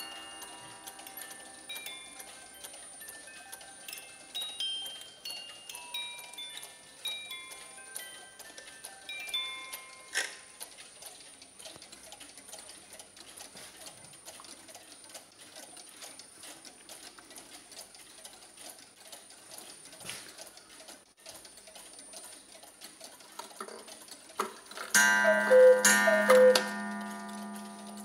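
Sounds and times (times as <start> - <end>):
clock ticking: 0.0 - 28.0.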